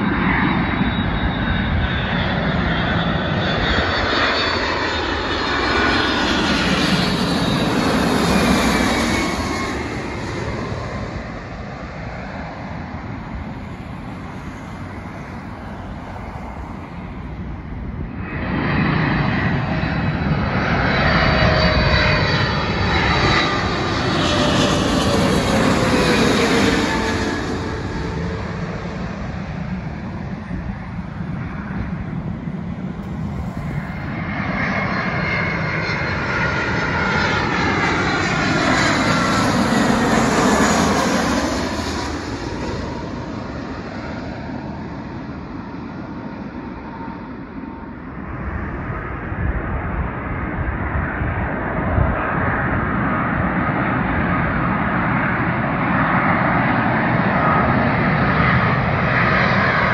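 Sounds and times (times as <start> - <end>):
jet airliners passing overhead: 0.0 - 59.9.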